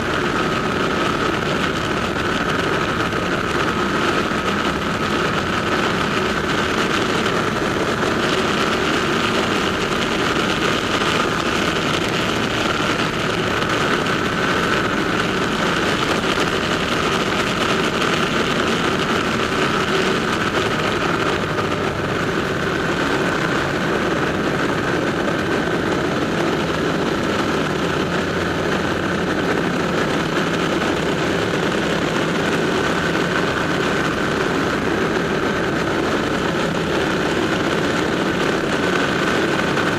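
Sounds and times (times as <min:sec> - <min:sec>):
motorcycle engine drone in tunnel: 0:00.0 - 0:39.9.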